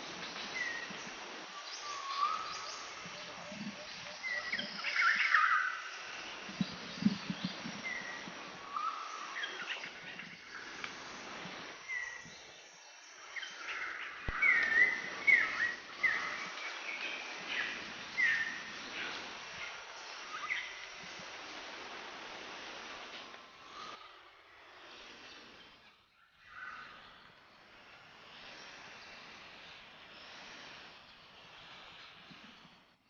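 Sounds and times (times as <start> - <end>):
birds chirping: 0.0 - 33.0
steady background hiss: 0.0 - 33.0.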